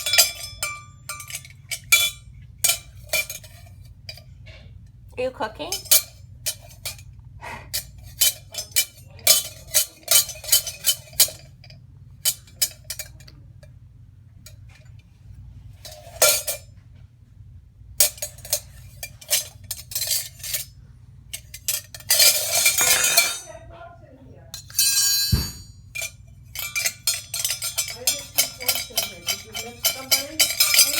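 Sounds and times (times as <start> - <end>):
utensils clinking against pots: 0.0 - 4.7, 5.6 - 13.7, 15.8 - 16.7, 18.0 - 23.7, 24.5 - 30.9.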